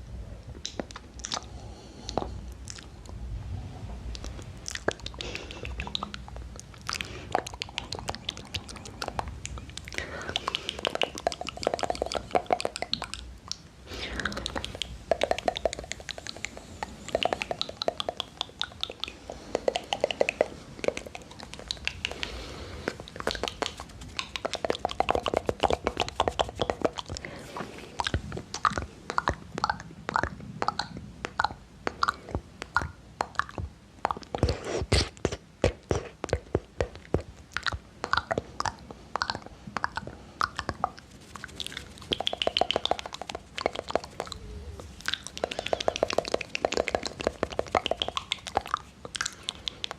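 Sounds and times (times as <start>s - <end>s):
mouth clicks and smacks: 0.4s - 3.2s, 4.1s - 49.9s.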